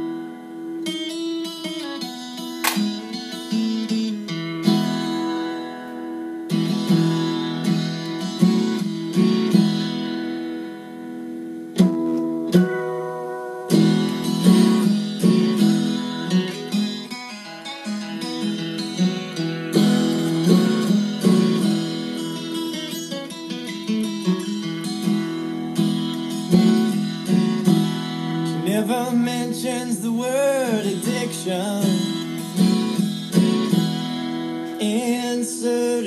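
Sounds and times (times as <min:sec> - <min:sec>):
acoustic guitar music through speaker: 0:00.0 - 0:36.0.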